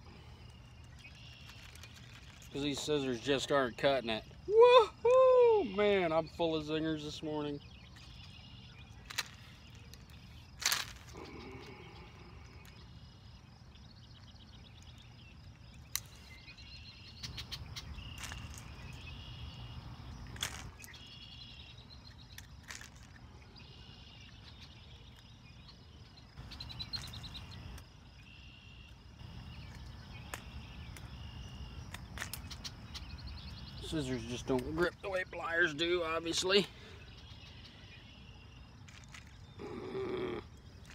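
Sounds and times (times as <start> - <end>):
insects and frogs trilling: 0.0 - 40.9.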